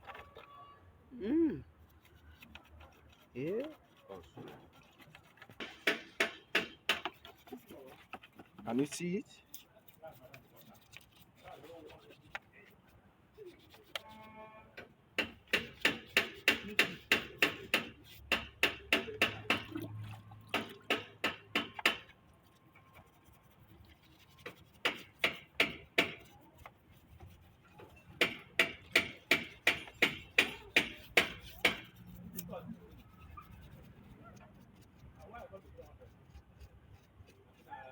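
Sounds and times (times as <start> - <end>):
stiff brush scrubbing wet engine: 1.7 - 14.3, 15.2 - 37.9.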